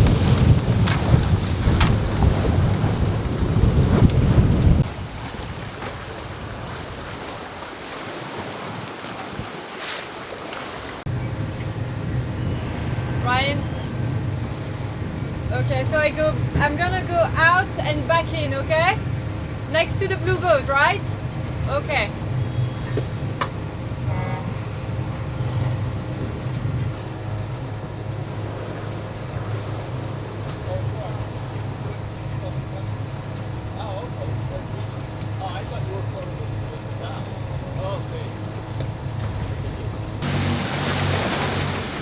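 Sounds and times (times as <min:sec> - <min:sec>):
boat engine droning: 0:00.0 - 0:42.0
sea wash and wind: 0:00.0 - 0:42.0.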